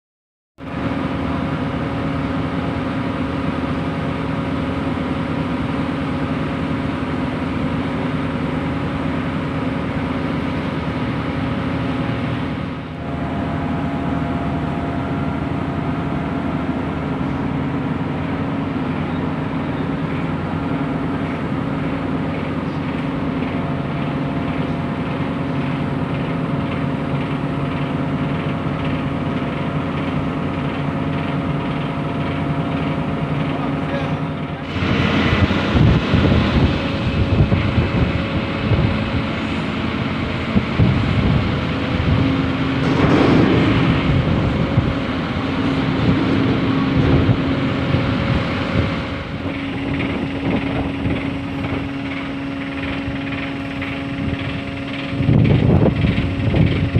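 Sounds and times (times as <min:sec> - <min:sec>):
ship machinery drone: 0:00.6 - 0:56.9.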